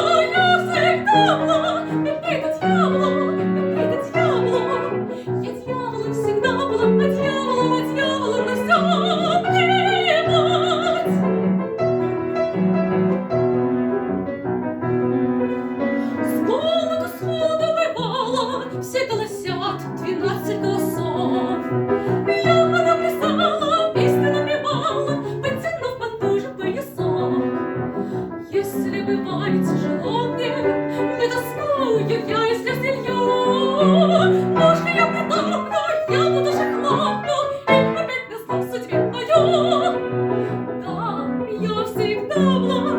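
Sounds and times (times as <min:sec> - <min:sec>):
soprano singing with vibrato: 0:00.0 - 0:11.4, 0:16.0 - 0:27.6, 0:28.4 - 0:42.9
piano accompaniment: 0:00.0 - 0:42.9.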